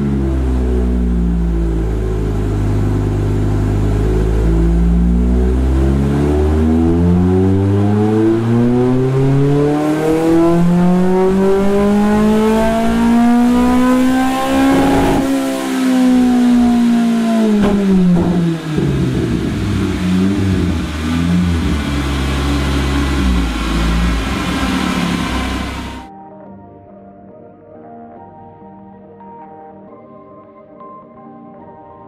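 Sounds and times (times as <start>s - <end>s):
engine revving at full throttle: 0.0s - 26.1s.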